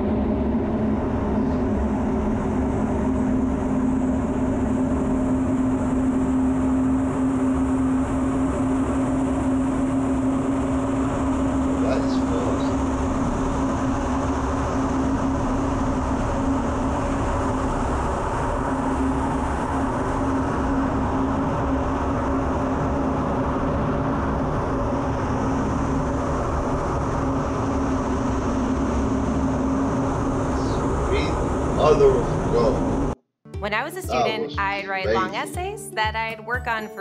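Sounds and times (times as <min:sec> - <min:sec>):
jet drone from cockpit: 0:00.0 - 0:33.2
low even hum: 0:00.0 - 0:37.0.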